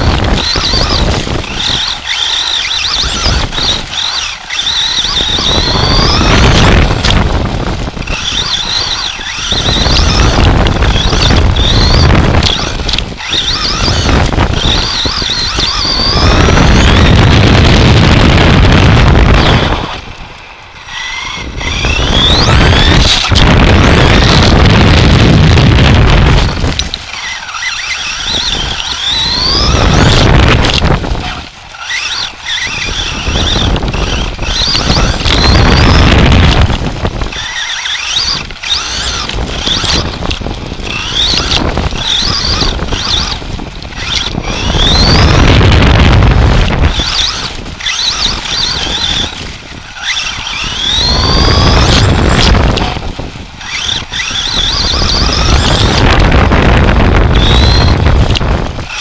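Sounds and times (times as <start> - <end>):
toy car motor and gears whining: 0.0 - 59.0
wheels rumbling: 0.0 - 59.0
wind: 0.0 - 59.0.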